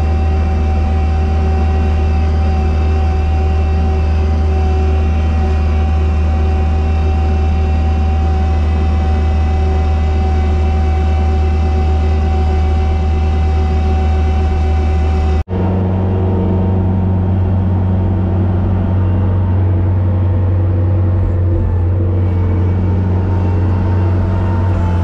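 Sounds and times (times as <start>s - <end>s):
snow-clearing machine engine running: 0.0s - 25.0s
steady whine: 0.0s - 25.0s.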